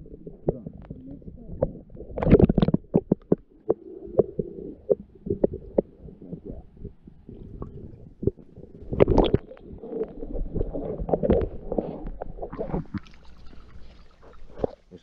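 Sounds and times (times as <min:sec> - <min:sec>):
low underwater rumble: 0:00.0 - 0:14.8
underwater knocks and clicks: 0:00.0 - 0:14.8
water churning: 0:00.0 - 0:15.0.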